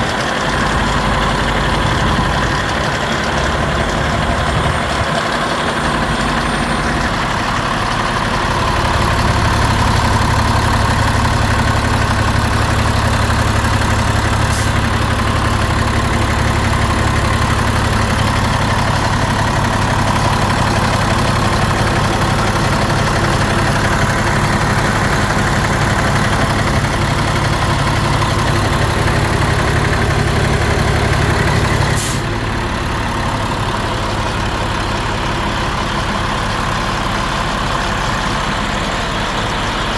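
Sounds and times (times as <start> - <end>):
garbage truck diesel engine idling: 0.0 - 39.9.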